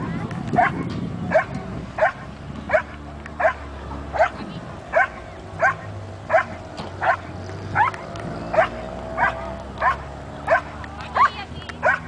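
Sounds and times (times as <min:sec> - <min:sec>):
dog barking: 0:00.6 - 0:12.0.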